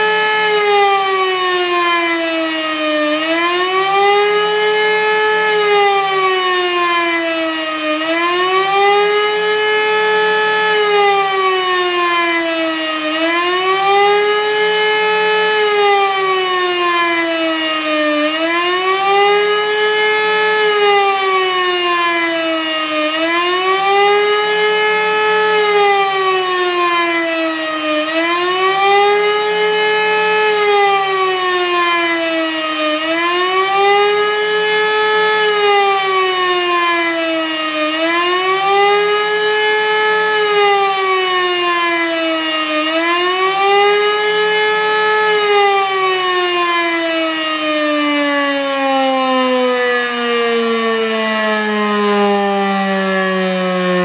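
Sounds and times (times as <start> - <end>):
air-raid siren wailing: 0.0 - 54.0.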